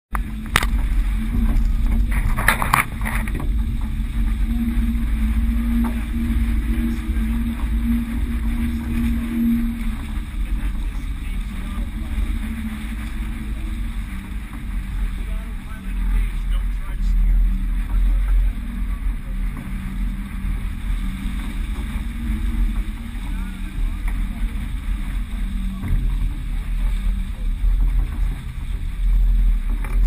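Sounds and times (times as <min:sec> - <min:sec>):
faint steady hum: 0:00.1 - 0:30.0
wind buffeting the microphone: 0:00.1 - 0:30.0.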